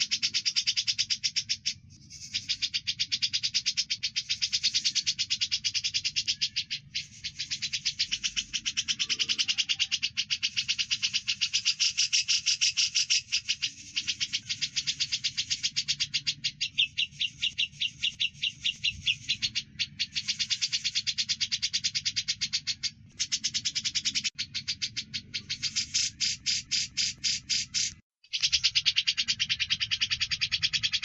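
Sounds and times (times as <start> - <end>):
rapid sharp bird chirps: 0.0 - 31.0.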